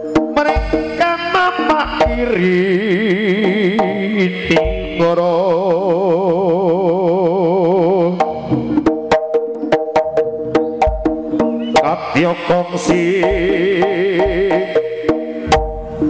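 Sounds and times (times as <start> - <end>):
drum strokes: 0.0 - 6.5, 8.2 - 16.0
gamelan music: 0.0 - 6.7, 8.0 - 16.0
vibrato melodic note: 0.0 - 16.0.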